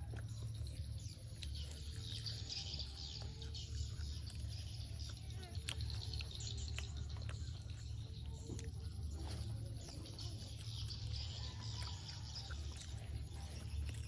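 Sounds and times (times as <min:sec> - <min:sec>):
birds chirping: 0:00.0 - 0:14.0
chewing fried chicken: 0:00.0 - 0:14.0
steady low hum: 0:00.0 - 0:14.0.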